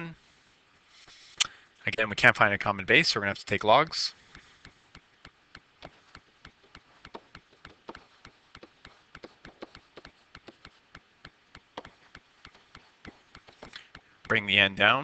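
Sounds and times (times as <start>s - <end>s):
faint rapid ticking: 1.4s - 15.0s.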